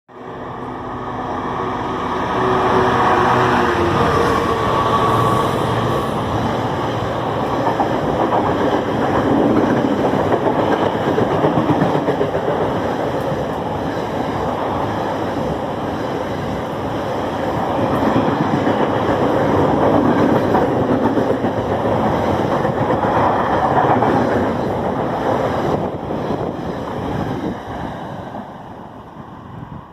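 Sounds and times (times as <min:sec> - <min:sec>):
train rumbling on rails: 0:00.1 - 0:29.9.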